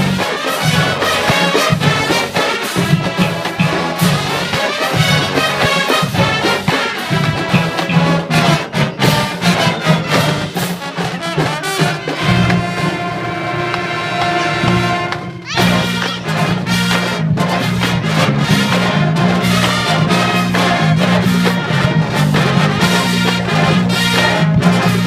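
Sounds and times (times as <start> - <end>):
marching band playing funk: 0.0 - 25.0.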